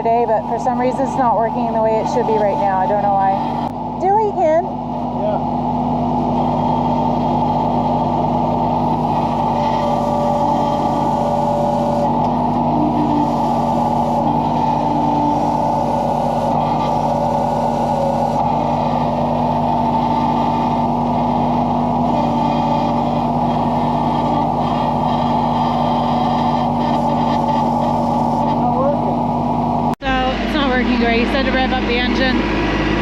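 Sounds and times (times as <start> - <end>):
backhoe engine running: 0.0 - 33.0.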